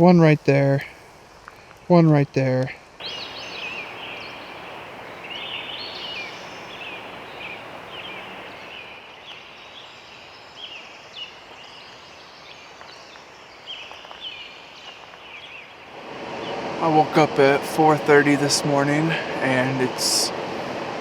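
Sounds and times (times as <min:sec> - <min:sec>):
steady background hiss: 0:00.0 - 0:21.0
birds chirping: 0:03.0 - 0:20.6.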